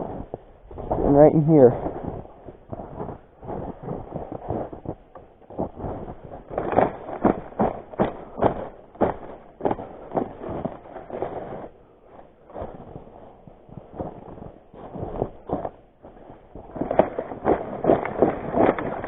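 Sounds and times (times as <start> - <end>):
footsteps crunching through snow: 0.0 - 19.0.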